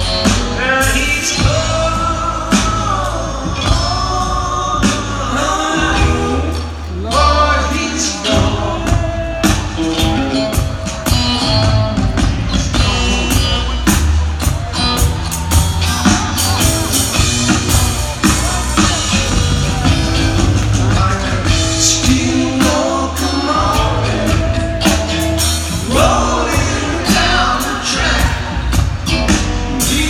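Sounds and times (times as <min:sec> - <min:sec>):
live rock band: 0:00.0 - 0:30.0.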